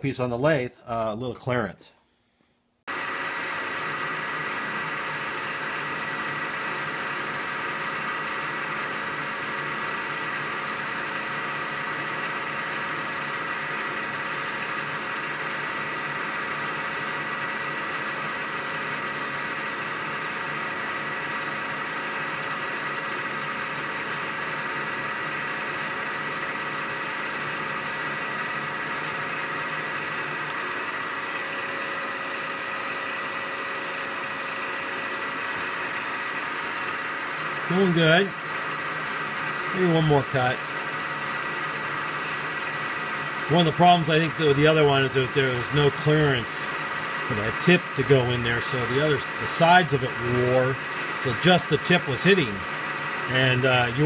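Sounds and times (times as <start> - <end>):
milling machine cutting with high whine: 2.9 - 54.0.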